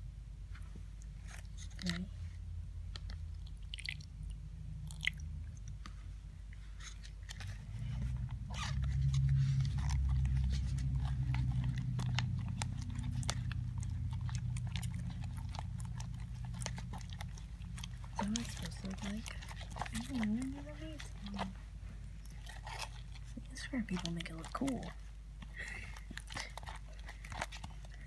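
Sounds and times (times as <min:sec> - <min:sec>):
slime squelching and clicking: 0:02.9 - 0:06.0, 0:06.8 - 0:28.0.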